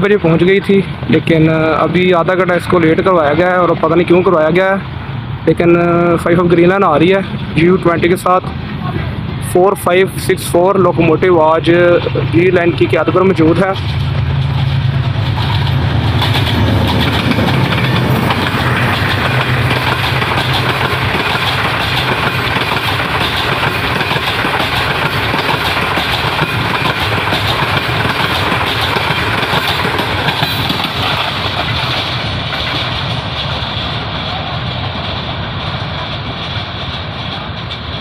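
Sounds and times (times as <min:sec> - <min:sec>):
locomotive engine hum: 0:00.0 - 0:38.0
train rumble and rail clatter: 0:00.0 - 0:38.0.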